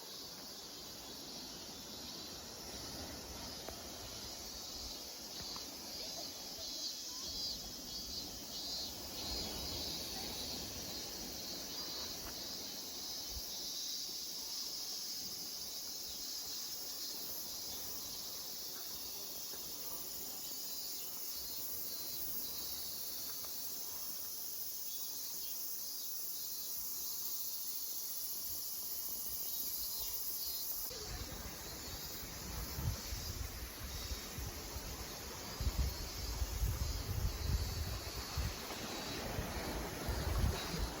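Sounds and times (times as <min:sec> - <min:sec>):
insect chorus: 0:00.0 - 0:41.0.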